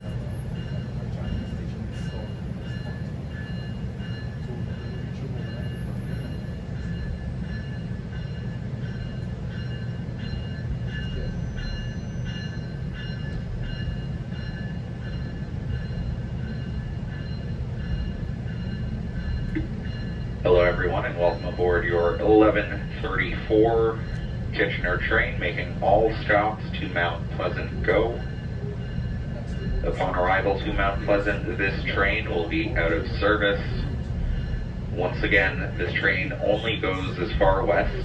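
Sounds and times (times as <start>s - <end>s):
train rumble from inside coach: 0.0s - 38.0s.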